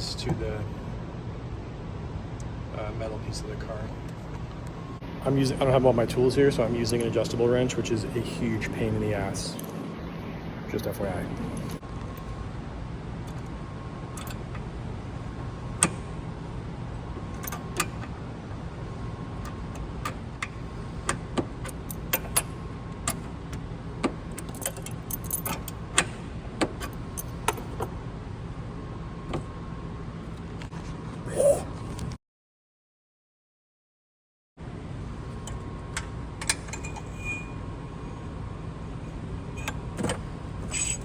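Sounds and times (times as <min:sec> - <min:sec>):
steady low hum: 0:00.0 - 0:32.2, 0:34.6 - 0:41.0.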